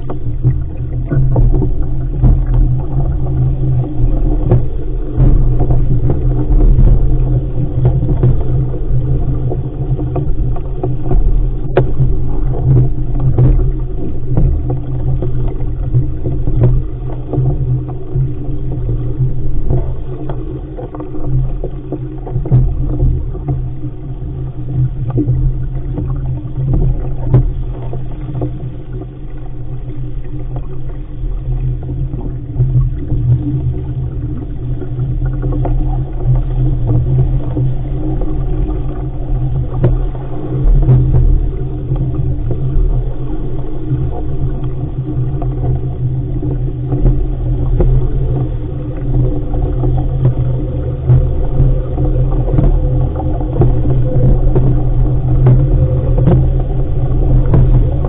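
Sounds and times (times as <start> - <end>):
water slapping along hull: 0.0 - 58.0.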